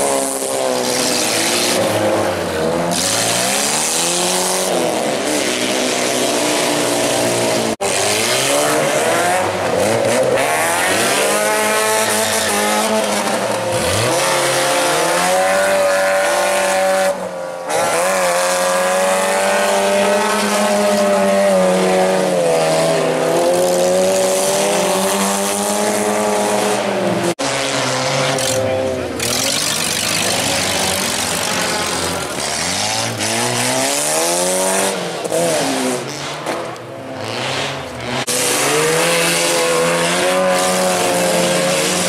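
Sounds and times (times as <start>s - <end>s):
race car engines revving: 0.0s - 42.0s.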